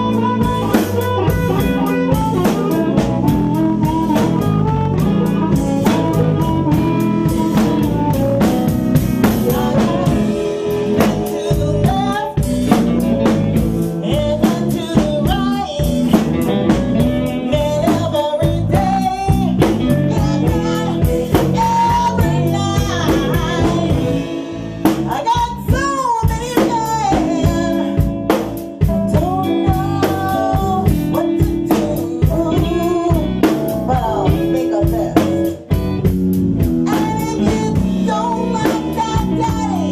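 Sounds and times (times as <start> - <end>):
drum kit: 0.0 - 39.9
electric guitar: 0.0 - 39.9
woman singing: 0.0 - 39.9.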